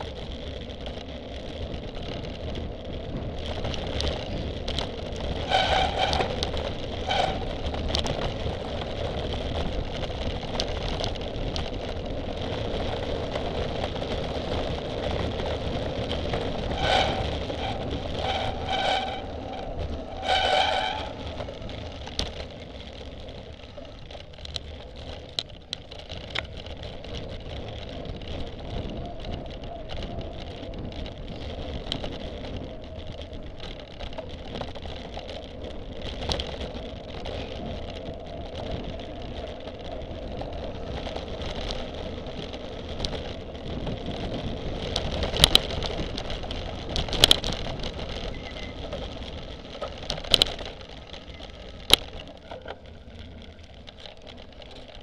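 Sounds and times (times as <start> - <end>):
bike rattling and clicking: 0.0 - 55.0
tyres and wind rumbling: 0.0 - 55.0.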